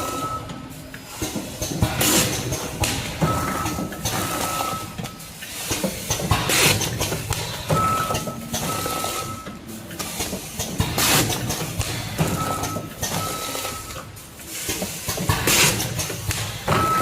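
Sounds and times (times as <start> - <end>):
packing machine clatter: 0.0 - 17.0.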